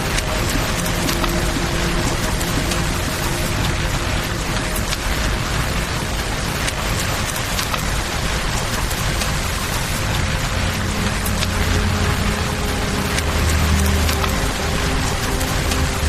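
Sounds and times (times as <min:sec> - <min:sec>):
campfire crackling: 0:00.0 - 0:16.0
river flowing: 0:00.0 - 0:16.0
steady rain hiss: 0:00.0 - 0:16.0.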